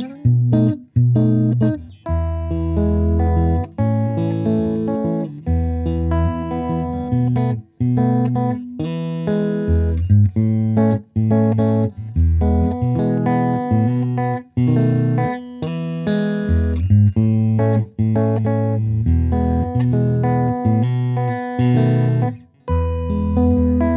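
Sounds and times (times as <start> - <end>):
electric guitar chords: 0.0 - 23.9.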